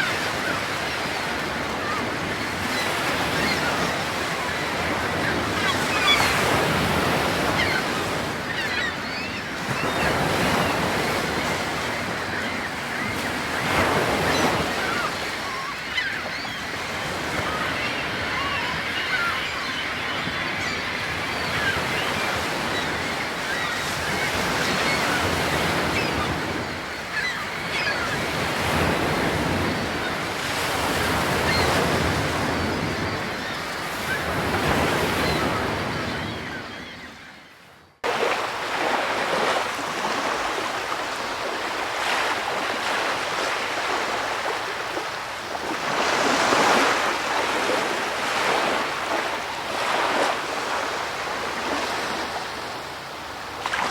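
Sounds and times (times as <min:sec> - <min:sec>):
ocean waves washing in and out: 0:00.0 - 0:37.4, 0:38.0 - 0:53.9.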